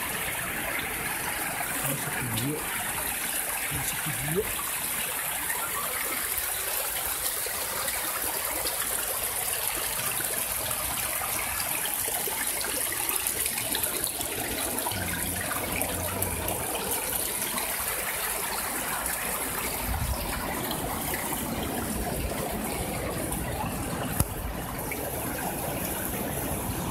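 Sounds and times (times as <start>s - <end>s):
water rushing among rocks: 0.0s - 26.9s.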